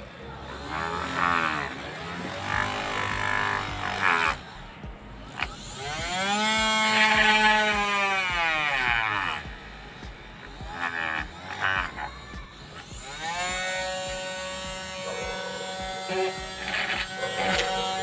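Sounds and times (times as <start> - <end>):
drill motor whining: 0.0 - 18.0.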